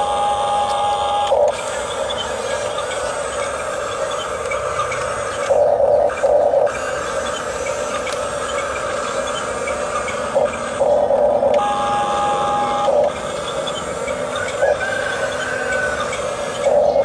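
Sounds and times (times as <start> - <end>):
toy bulldozer motors whirring: 0.0 - 17.0.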